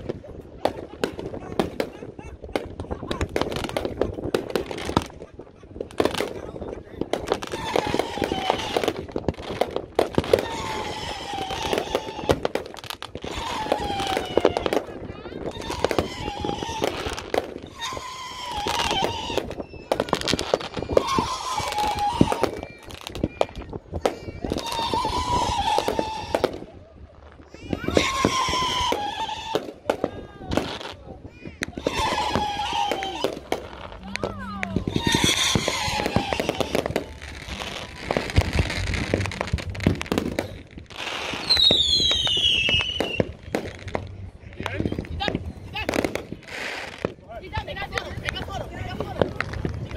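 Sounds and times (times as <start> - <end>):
fireworks popping and crackling: 0.0 - 49.9.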